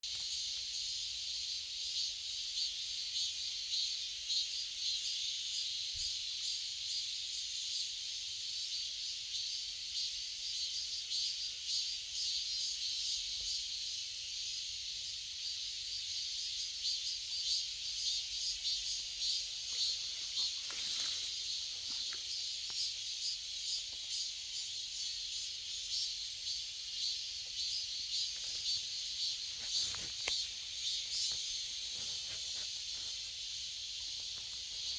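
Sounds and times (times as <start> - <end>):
cicadas buzzing: 0.0 - 34.9.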